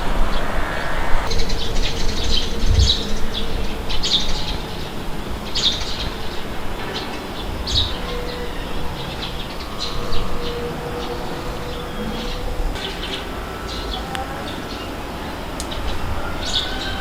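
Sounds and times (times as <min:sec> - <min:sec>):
low rumble of wind: 0:00.0 - 0:17.0
small birds chirping: 0:01.3 - 0:17.0.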